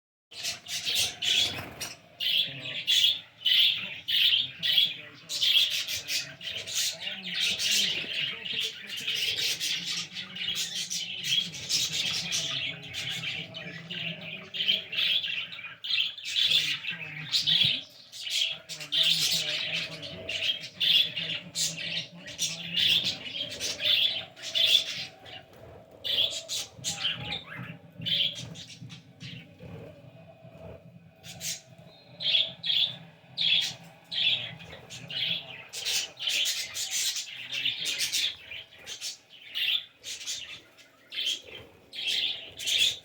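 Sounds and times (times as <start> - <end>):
small birds chirping and squawking: 0.3 - 43.0.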